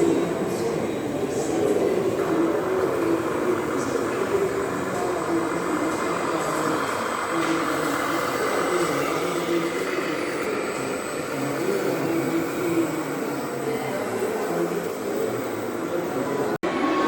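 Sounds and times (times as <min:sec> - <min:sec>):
model truck motor whirring: 0:00.0 - 0:16.6.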